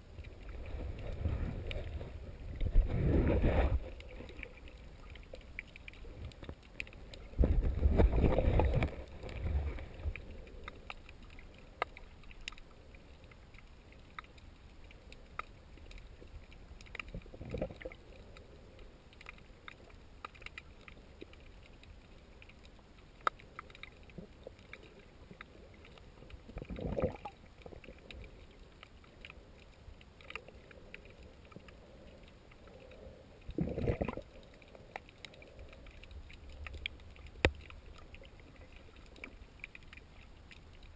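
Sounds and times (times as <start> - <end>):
sharp underwater clicks: 0.0 - 40.9
water rushing against camera: 0.0 - 40.9.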